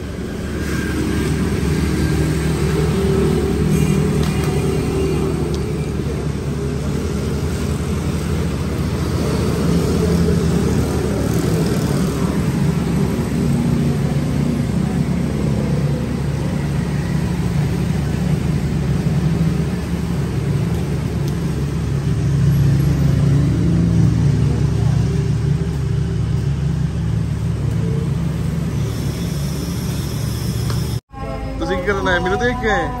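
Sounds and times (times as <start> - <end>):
motorcycle engines rumbling: 0.0 - 33.0.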